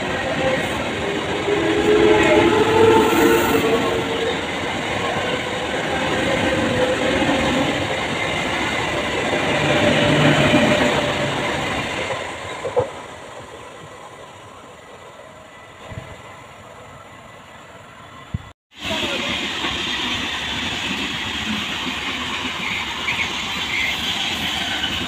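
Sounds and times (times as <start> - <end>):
passenger train passing at speed: 0.0 - 25.0.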